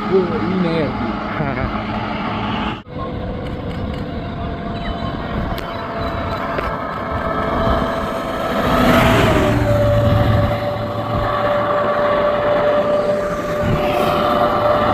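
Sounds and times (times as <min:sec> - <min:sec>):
bus engine passing by: 0:00.0 - 0:14.9.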